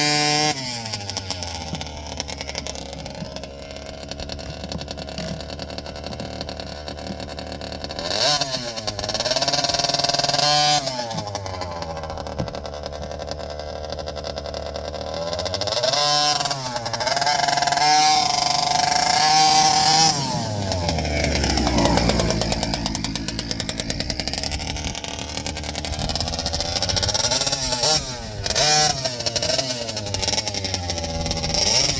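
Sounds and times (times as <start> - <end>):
two-stroke engine idling and revving: 0.0 - 31.9.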